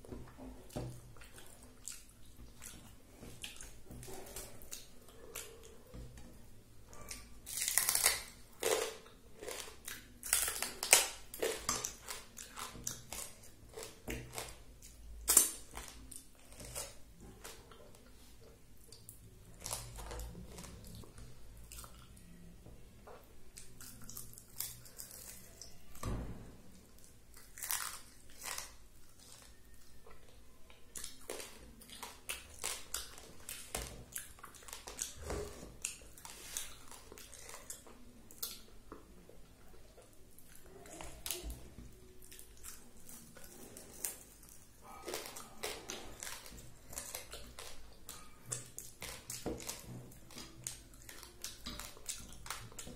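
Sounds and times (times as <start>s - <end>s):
close-up chewing crunches: 0.7s - 5.8s, 6.9s - 22.4s, 23.0s - 26.0s, 27.0s - 30.3s, 30.9s - 39.0s, 39.7s - 52.9s.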